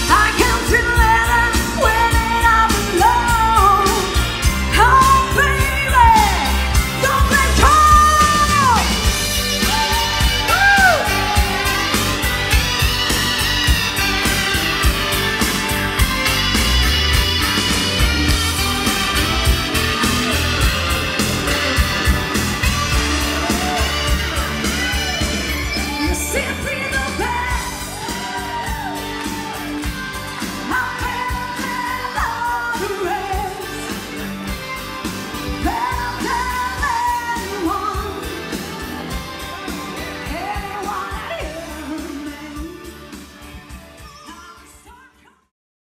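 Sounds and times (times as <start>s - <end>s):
pop song with singing: 0.0s - 45.5s.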